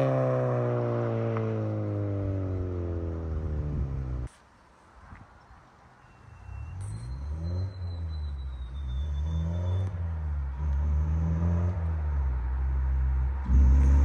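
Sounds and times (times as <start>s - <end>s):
car engine accelerating: 0.0s - 4.3s, 6.8s - 14.0s.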